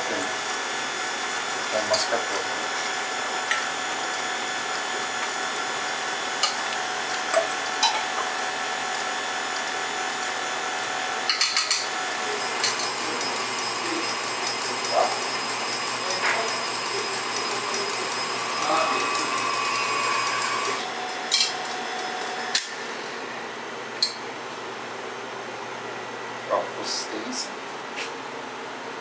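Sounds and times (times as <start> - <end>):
stand mixer motor whine: 0.0 - 24.9.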